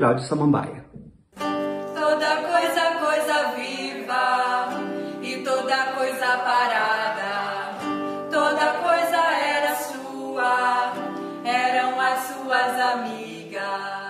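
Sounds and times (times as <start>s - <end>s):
two women singing: 1.8s - 14.0s.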